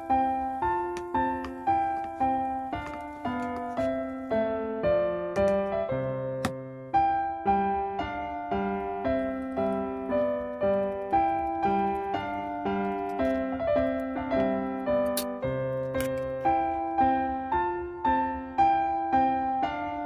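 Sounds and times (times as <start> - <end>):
light piano melody: 0.0 - 20.0.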